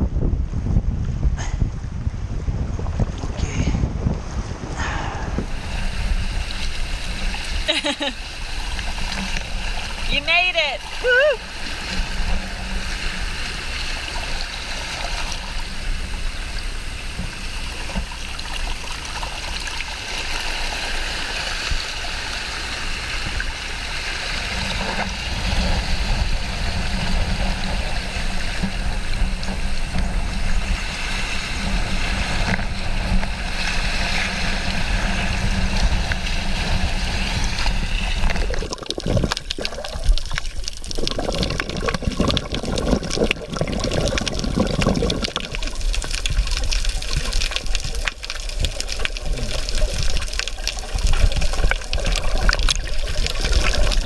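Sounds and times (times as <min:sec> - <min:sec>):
seawater washing over rocks: 0:02.9 - 0:54.0
underwater crackling clicks and bubbling: 0:04.8 - 0:10.2, 0:10.8 - 0:54.0
muffled underwater sea sound: 0:04.8 - 0:54.0.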